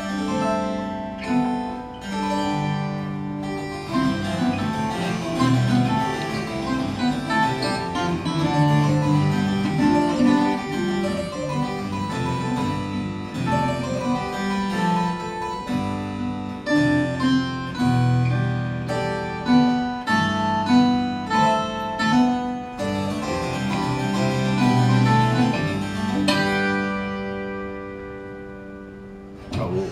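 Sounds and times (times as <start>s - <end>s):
harpsichord: 0.0s - 29.9s
plucked viola: 0.0s - 29.9s.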